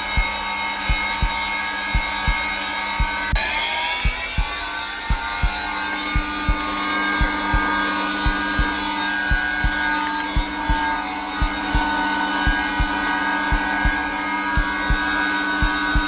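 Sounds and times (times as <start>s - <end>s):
heartbeat thumping: 0.0s - 16.0s
vacuum cleaner running: 0.0s - 16.0s.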